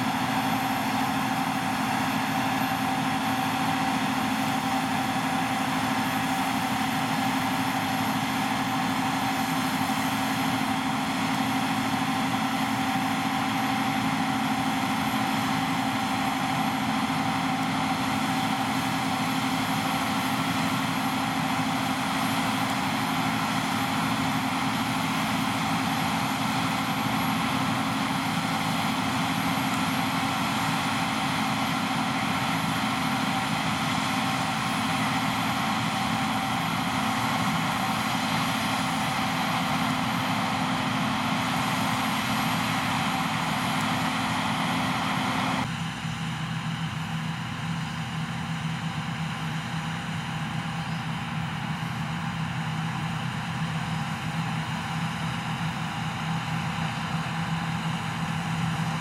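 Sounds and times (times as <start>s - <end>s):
machinery drone: 0.0s - 59.0s.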